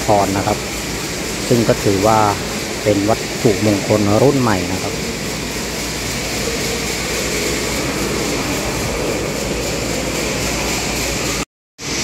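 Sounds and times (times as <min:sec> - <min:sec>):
ventilation fans rushing: 0:00.0 - 0:12.0.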